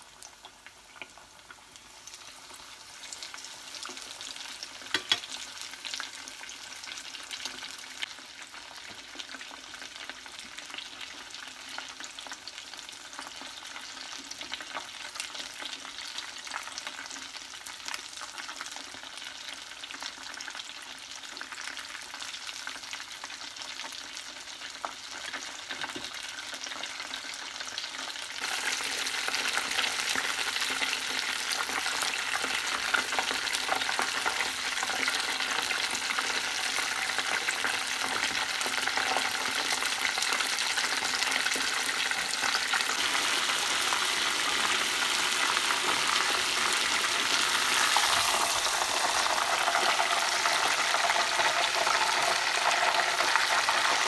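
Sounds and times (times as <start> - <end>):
food frying in hot oil: 0.0 - 54.0.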